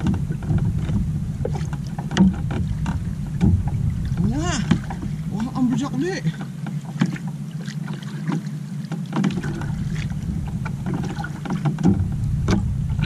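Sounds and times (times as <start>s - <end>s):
wind rumbling on microphone: 0.0s - 8.5s, 9.2s - 13.0s
light clicks and knocks: 0.0s - 13.0s
water lapping against hull: 0.0s - 13.0s.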